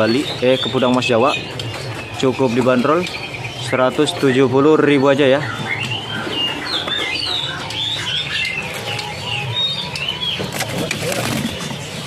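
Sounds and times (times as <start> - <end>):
songbirds chirping and warbling: 0.0 - 12.0.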